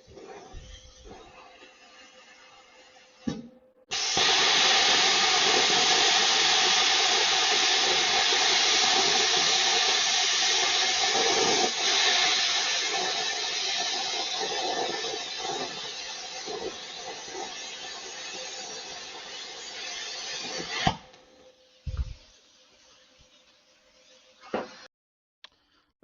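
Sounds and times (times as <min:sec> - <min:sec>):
plasma cutter hissing: 0:00.0 - 0:24.9.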